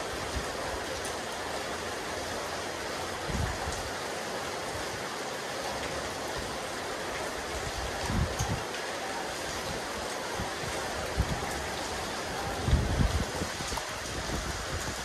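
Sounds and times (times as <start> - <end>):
rain falling on a roof: 0.0 - 15.0.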